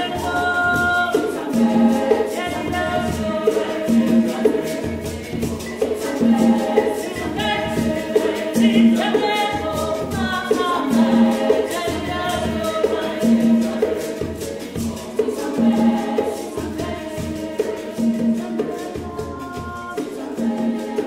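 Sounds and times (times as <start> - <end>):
choir singing in harmony: 0.0 - 21.0
shaker beat: 0.0 - 21.0.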